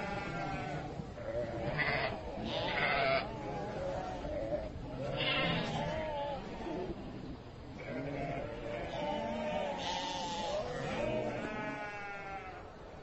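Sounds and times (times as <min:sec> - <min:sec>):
sheep bleating: 0:00.0 - 0:06.7, 0:07.8 - 0:12.7.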